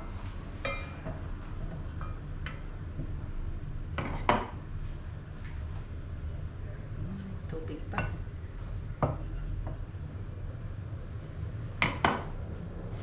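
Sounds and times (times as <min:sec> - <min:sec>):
gas burner hum: 0:00.0 - 0:13.0.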